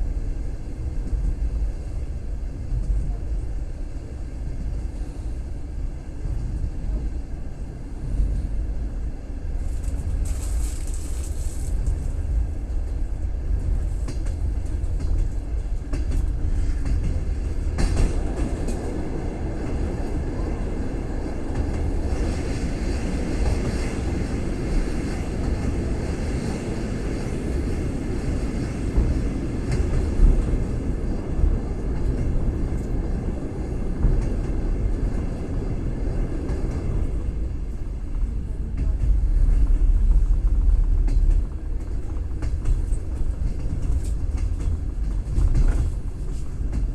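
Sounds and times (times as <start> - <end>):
train wheels rumbling over rails: 0.0 - 46.9.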